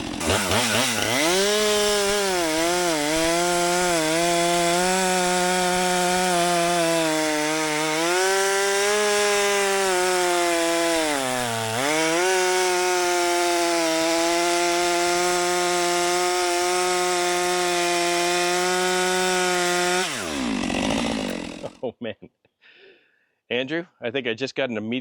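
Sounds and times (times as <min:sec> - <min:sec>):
chainsaw cutting a log: 0:00.0 - 0:21.8.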